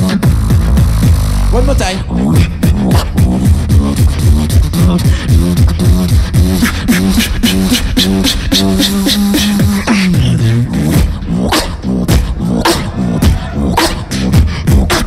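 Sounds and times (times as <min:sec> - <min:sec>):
beatbox snare and hi-hat sounds: 0:00.0 - 0:15.0
vocal bass line: 0:00.0 - 0:15.0.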